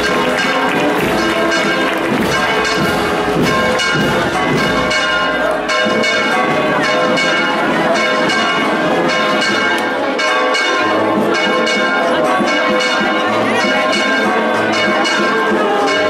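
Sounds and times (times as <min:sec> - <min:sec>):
church bells ringing a peal: 0:00.0 - 0:16.0.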